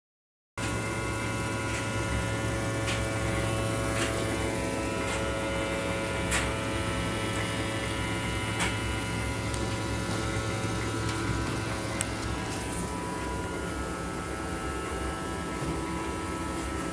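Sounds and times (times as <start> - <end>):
vacuum cleaner running: 0.6 - 16.9.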